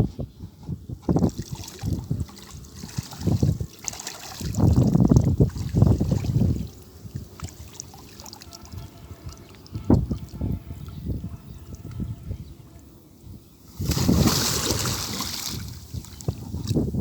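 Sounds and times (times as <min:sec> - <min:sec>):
water splashing and sloshing: 0:00.9 - 0:12.1, 0:13.6 - 0:17.0.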